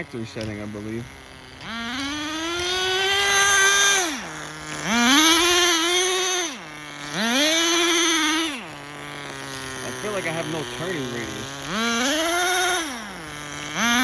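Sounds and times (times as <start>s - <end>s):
model car engine revving: 0.0s - 14.0s.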